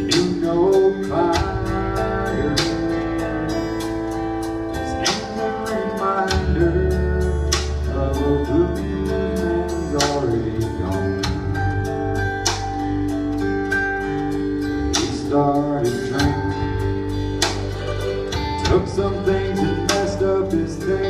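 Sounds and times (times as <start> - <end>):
live blues band playing: 0.0 - 21.0.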